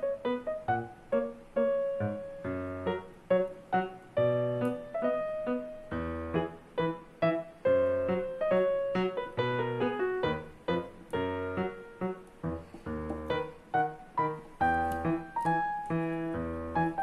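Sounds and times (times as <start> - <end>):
piano melody: 0.0 - 17.0.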